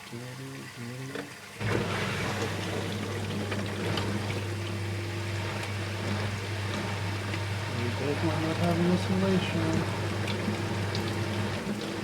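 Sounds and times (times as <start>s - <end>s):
dishwasher pump humming: 0.0s - 12.0s.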